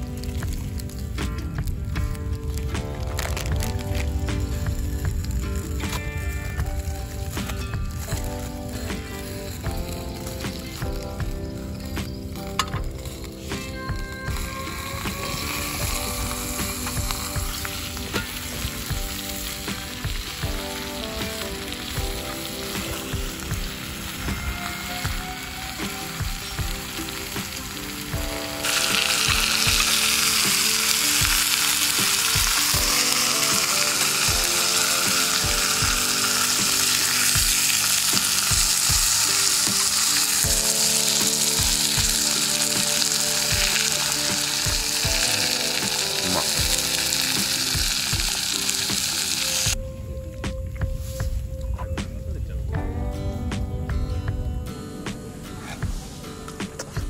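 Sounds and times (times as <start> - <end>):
sausages sizzling in a pan: 0.0 - 49.8
background music: 0.0 - 57.0.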